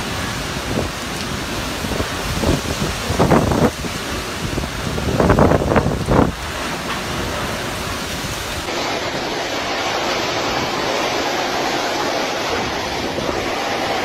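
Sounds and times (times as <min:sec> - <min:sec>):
heavy rain: 0:00.0 - 0:14.0
strong wind gusts: 0:00.0 - 0:14.0.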